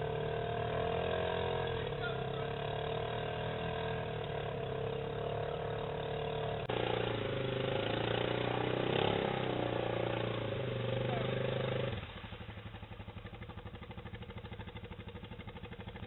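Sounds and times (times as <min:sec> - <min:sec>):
quad engine running: 0:00.0 - 0:16.0.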